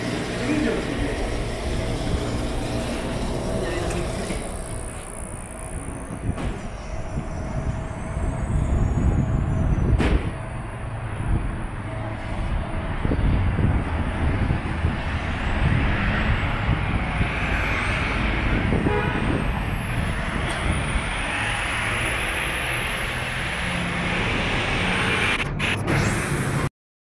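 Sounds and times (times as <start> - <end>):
constant hum: 0.0 - 23.6
rumble of passing vehicles: 0.0 - 26.7.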